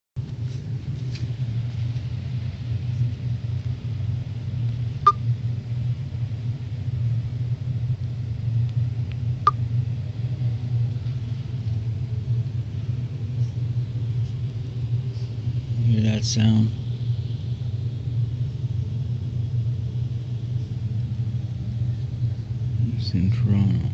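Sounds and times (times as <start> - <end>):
low rumbling hum: 0.2 - 23.9.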